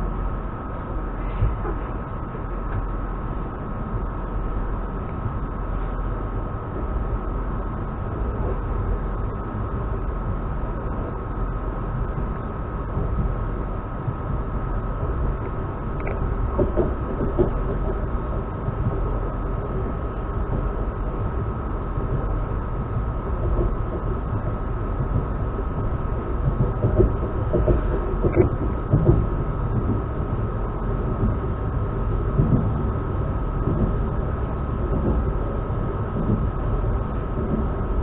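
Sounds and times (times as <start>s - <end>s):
constant high hum: 0.0s - 38.0s
train rumble inside carriage: 0.0s - 38.0s.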